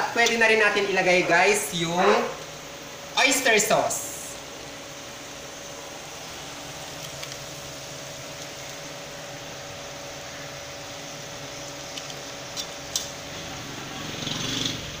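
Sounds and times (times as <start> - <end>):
faint hum: 0.0 - 15.0
steady hiss: 0.0 - 15.0.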